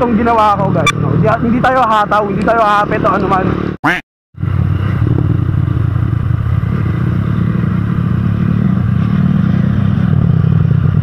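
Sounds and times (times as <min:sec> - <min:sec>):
motorcycle engine cruising: 0:00.0 - 0:03.8, 0:04.4 - 0:11.0.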